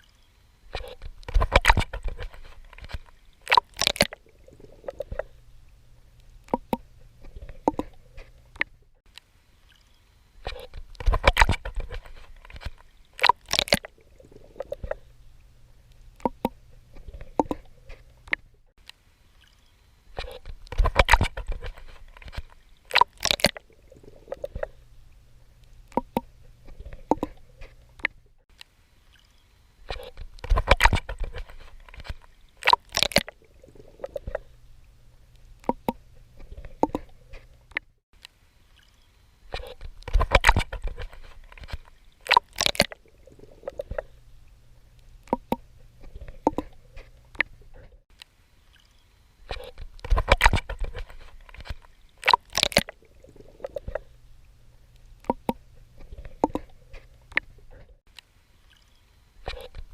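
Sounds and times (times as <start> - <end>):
water splashing from swimming: 0.0 - 18.4, 19.4 - 28.2, 28.9 - 37.8, 38.7 - 48.0, 48.6 - 58.0
small water drips: 0.0 - 59.9.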